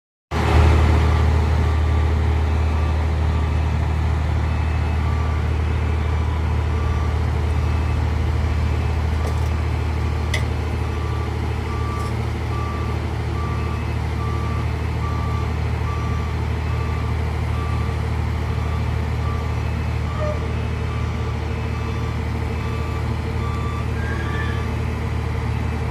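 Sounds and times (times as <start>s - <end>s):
diesel engine running: 0.3s - 25.9s.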